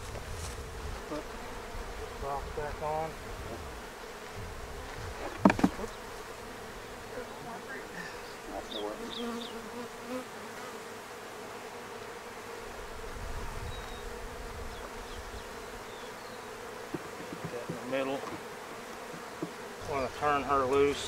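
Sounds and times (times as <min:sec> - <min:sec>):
honey bees buzzing: 0:00.0 - 0:21.0.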